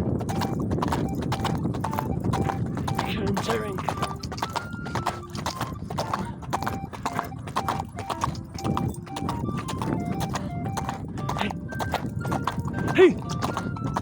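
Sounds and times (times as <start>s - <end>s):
horse hoofbeats cantering: 0.0s - 14.0s.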